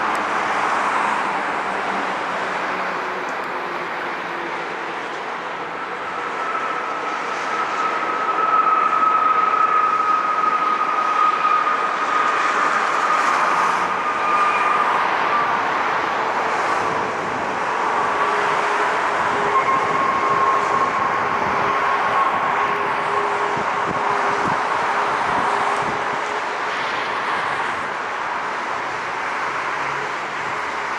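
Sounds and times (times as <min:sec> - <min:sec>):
jet engines rushing and whining: 0:00.0 - 0:30.9.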